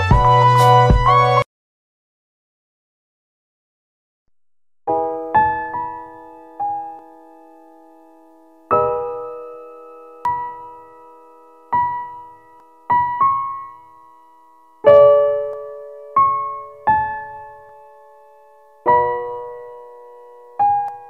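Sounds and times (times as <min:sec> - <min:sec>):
slow piano music: 0:00.0 - 0:01.5, 0:04.9 - 0:21.0.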